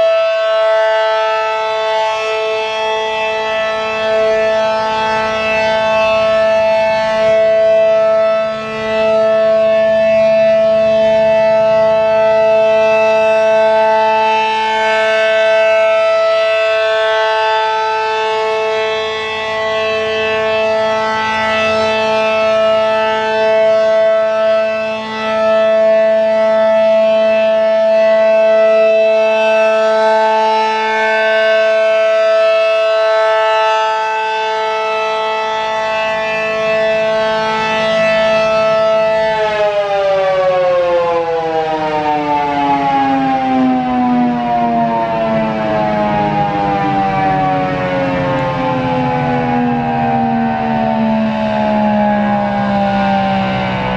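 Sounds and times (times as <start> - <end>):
warning siren steady chord: 0.0 - 53.9.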